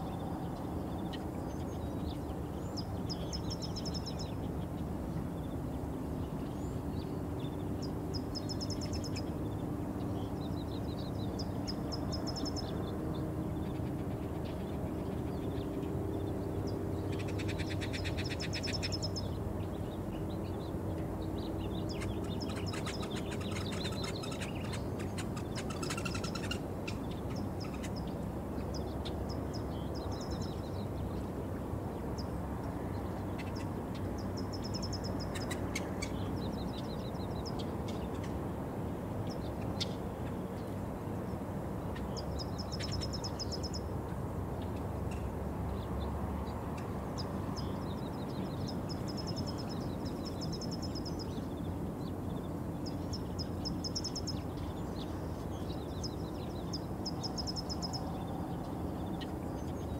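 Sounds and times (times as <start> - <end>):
birds chirping: 0.0 - 38.4, 39.2 - 59.9.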